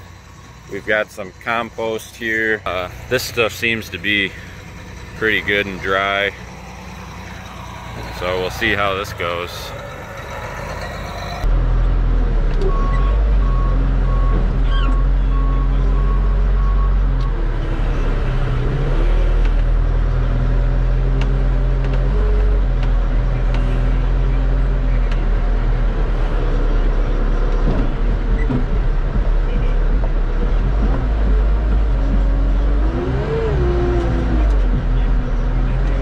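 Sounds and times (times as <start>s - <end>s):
diesel engine running hard: 0.0s - 36.0s.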